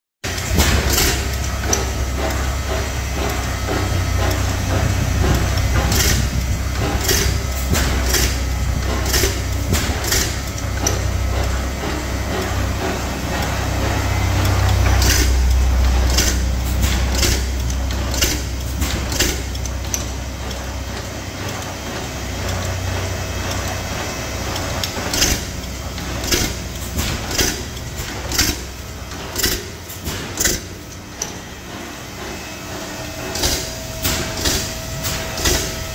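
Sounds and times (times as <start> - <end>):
stationary engine rumbling: 0.2 - 35.9.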